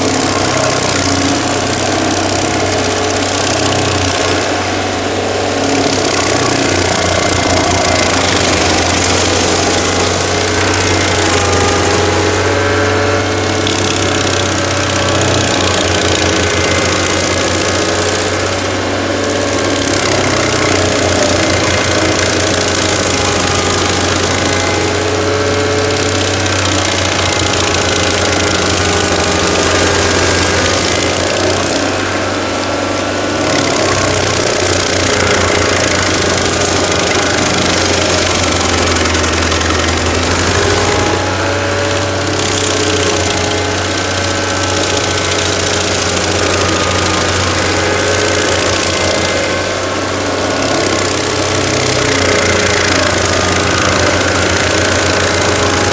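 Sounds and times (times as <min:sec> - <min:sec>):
engine drone: 0:00.0 - 0:55.9
wheel grinding wood: 0:00.0 - 0:55.9.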